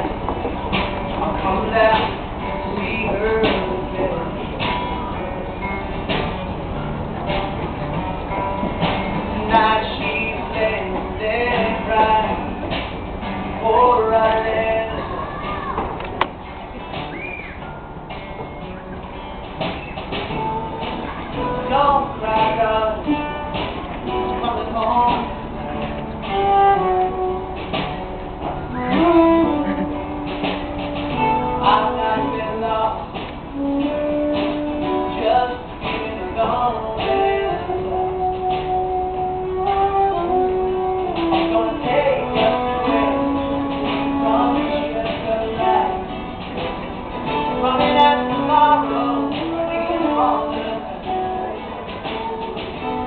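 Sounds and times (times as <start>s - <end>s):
live band playing: 0.0s - 53.0s
strummed guitar: 0.0s - 53.0s.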